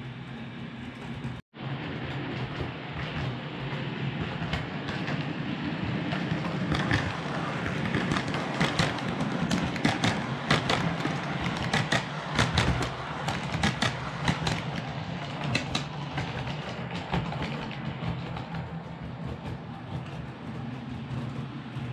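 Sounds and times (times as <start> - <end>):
wheels clicking over rail joints: 0.6 - 21.9.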